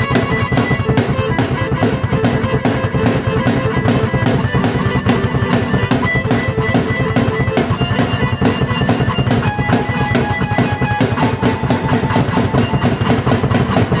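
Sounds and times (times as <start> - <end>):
drum kit beat: 0.0 - 14.0
keyboard held notes: 0.0 - 14.0.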